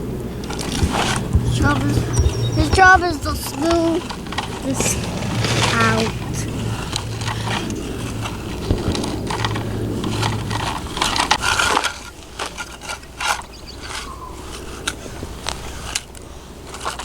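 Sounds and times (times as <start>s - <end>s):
toy vehicle scraping sand and gravel: 0.0s - 17.0s.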